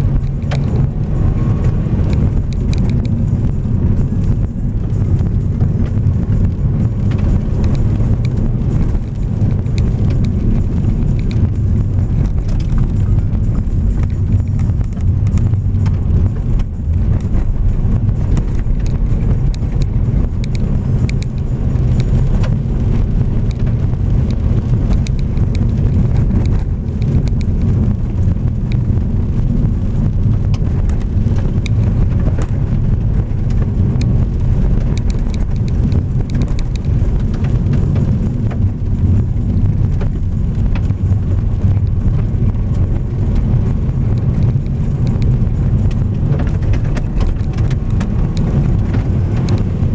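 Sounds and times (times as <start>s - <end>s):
car engine and tyres rumbling: 0.0s - 49.9s
gravel crackling under tyres: 0.0s - 49.9s.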